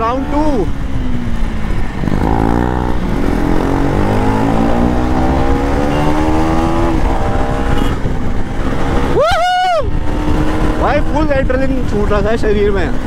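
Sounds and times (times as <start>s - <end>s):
motorcycle engine accelerating: 0.0s - 9.2s, 9.8s - 13.0s
low wind rumble: 0.0s - 13.0s.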